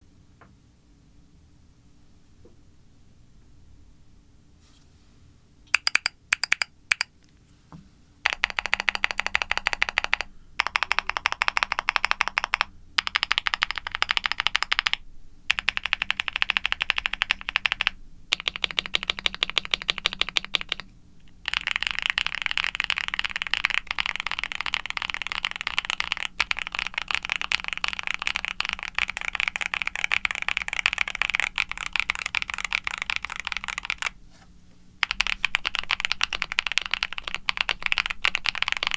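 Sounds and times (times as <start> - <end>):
mechanical keyboard typing: 5.7 - 7.1, 8.2 - 34.2, 35.0 - 38.9.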